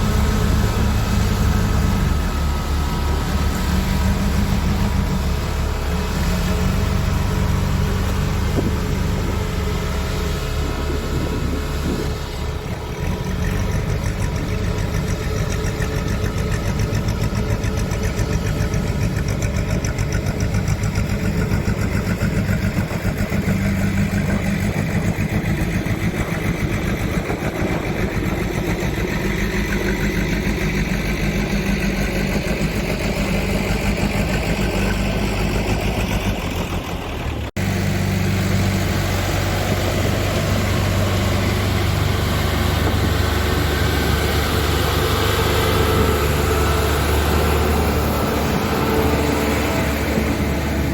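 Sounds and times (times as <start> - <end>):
diesel engine throbbing: 0.0 - 50.9.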